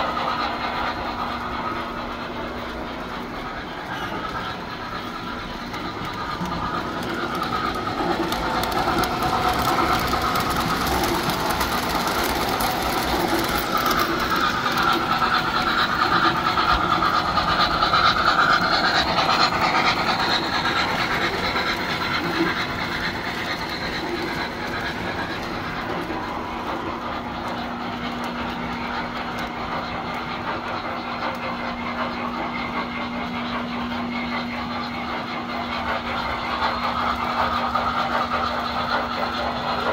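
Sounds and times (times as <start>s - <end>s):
model train rolling rattle: 0.0s - 39.9s
wheels clicking over rail joints: 0.0s - 39.9s.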